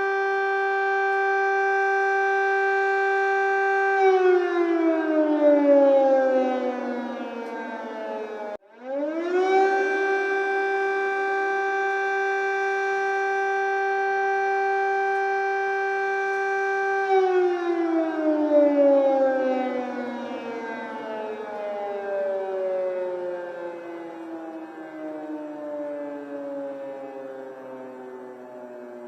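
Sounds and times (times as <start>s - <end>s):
air raid siren wailing: 0.0s - 29.0s.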